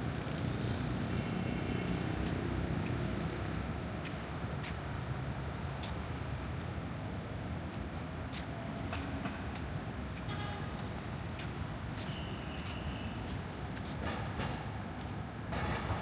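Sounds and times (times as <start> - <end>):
passing traffic rumble: 0.0 - 16.0.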